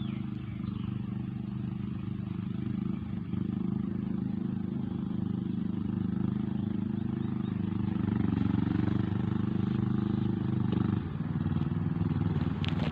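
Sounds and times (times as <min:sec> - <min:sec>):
small engine running: 0:00.0 - 0:12.9.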